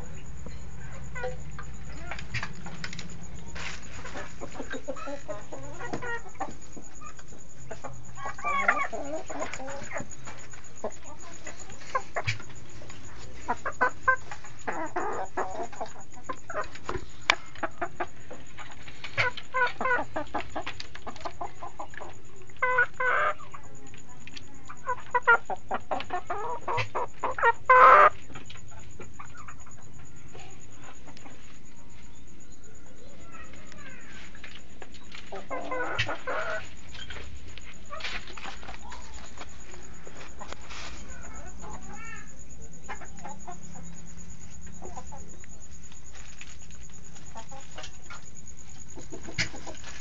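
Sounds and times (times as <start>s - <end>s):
turkeys calling: 0.0s - 23.6s, 24.8s - 29.9s, 32.8s - 42.3s, 46.1s - 50.0s.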